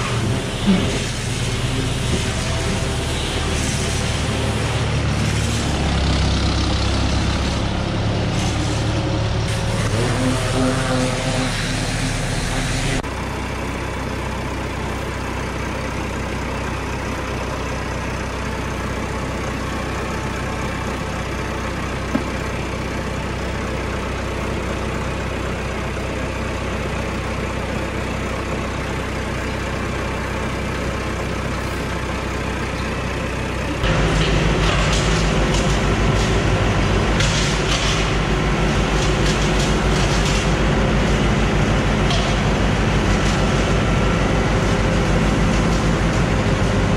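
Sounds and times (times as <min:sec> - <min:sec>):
heavy vehicle engine running: 0:00.0 - 0:46.9
loud pulsing engine with knocks: 0:00.0 - 0:46.9.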